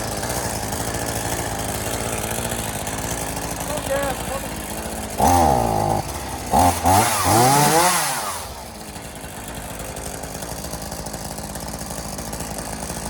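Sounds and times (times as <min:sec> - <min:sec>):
chainsaw revving and idling: 0:00.0 - 0:13.0.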